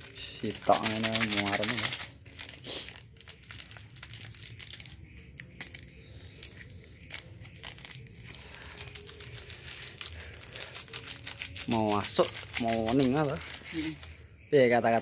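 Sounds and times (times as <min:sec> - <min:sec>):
plastic sachets crinkling: 0:00.0 - 0:14.2
plastic sachets tearing open: 0:00.0 - 0:14.2.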